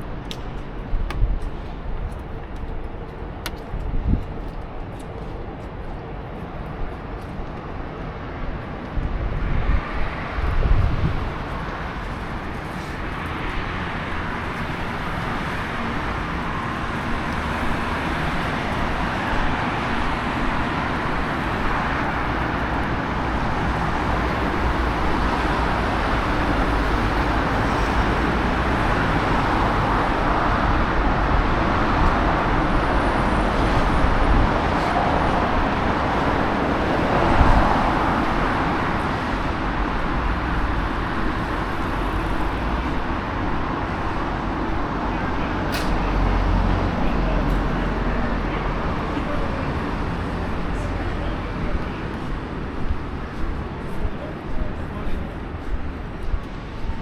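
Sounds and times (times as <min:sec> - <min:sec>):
traffic on wet roads: 0:07.6 - 0:57.0.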